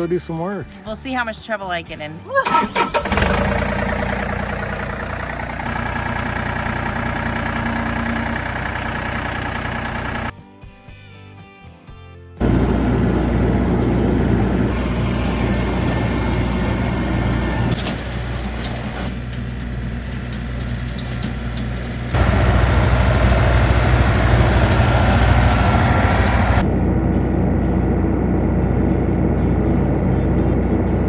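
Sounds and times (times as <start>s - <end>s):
diesel tractor engine running: 2.4s - 10.3s, 12.4s - 31.0s.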